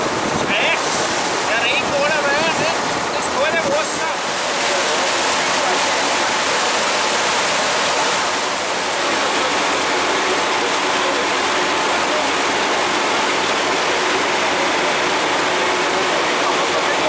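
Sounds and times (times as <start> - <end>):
water and wind rushing: 0.0 - 17.0.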